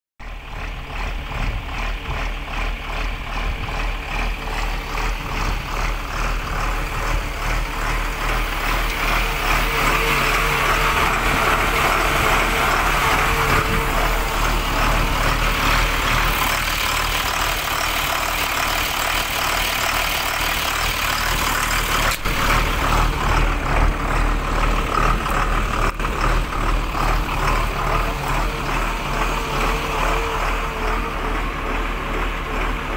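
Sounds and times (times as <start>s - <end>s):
diesel engine idling: 0.2s - 32.9s.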